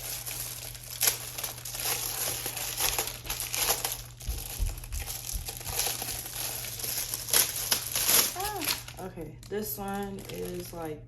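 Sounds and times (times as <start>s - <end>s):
packaging crinkling: 0.0s - 10.9s.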